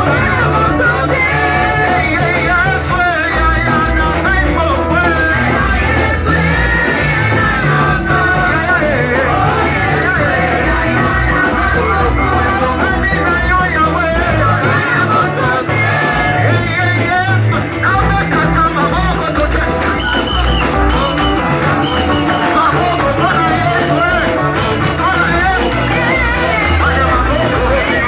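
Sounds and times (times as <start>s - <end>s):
live worship band music: 0.0s - 28.0s
steady bass line: 0.0s - 28.0s
voices singing: 0.0s - 28.0s.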